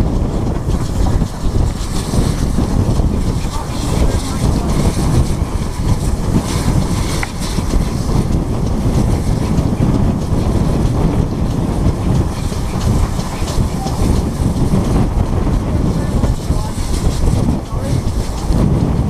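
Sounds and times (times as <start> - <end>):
train wheels rumbling on track: 0.0 - 19.0
wind buffeting microphone: 0.0 - 19.0.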